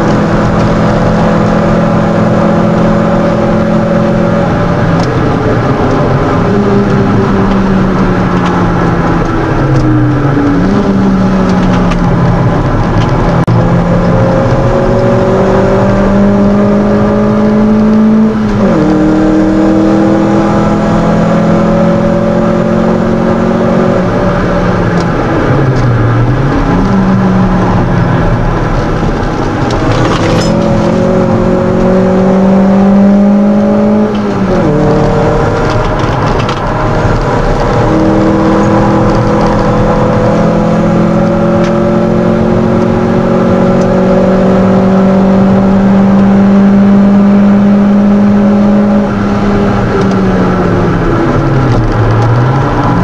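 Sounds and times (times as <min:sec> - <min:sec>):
car engine accelerating from cabin: 0:00.0 - 0:53.0.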